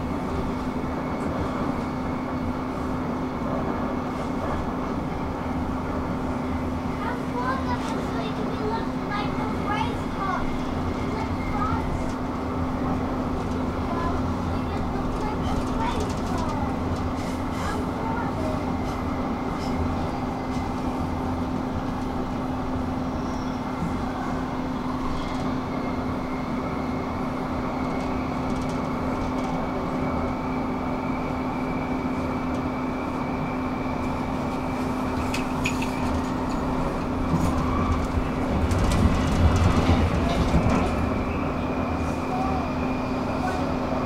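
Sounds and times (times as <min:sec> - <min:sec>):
constant train whine: 0:00.0 - 0:44.0
train wheels rumbling on track: 0:00.0 - 0:44.0.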